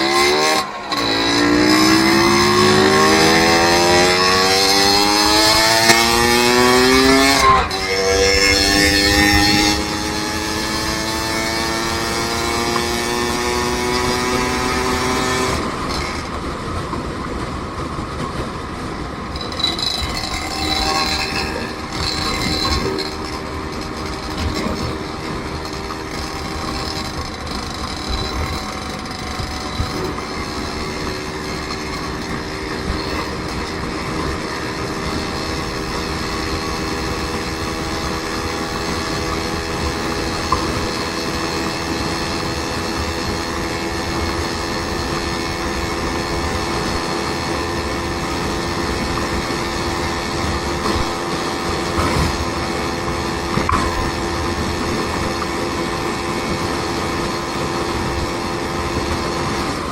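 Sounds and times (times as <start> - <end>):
road rumble: 0.0 - 59.9
vehicle engine drone: 0.0 - 59.9.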